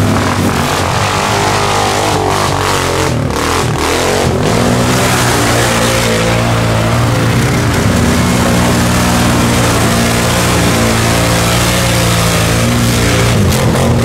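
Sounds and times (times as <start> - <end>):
atv engines revving: 0.0 - 14.0.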